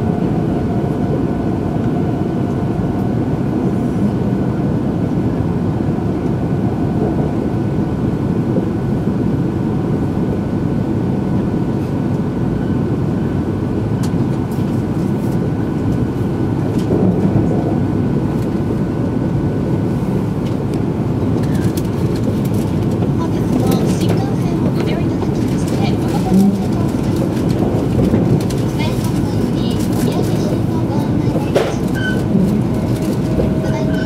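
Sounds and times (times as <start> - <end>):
train cabin low rumble: 0.0 - 34.0.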